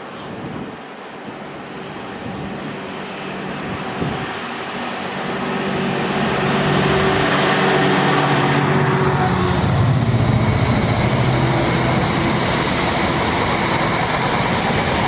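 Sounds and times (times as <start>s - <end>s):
rumble of train wheels: 0.0s - 15.0s
train engine hum: 0.0s - 15.0s.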